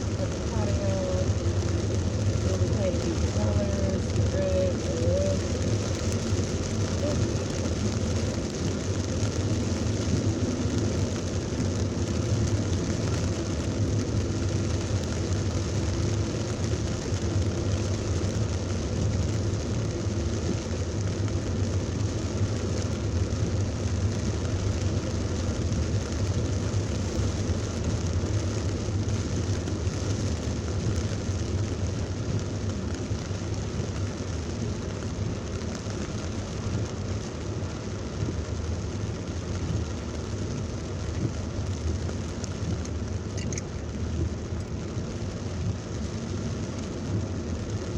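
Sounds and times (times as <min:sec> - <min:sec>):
car rumbling: 0:00.0 - 0:47.9
rain and spray hissing: 0:00.0 - 0:47.9.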